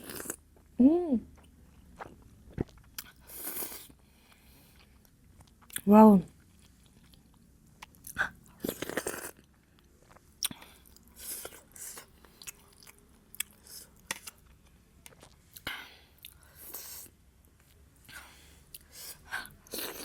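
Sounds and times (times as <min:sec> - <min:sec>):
person chewing food: 0:00.0 - 0:05.8, 0:06.4 - 0:20.0.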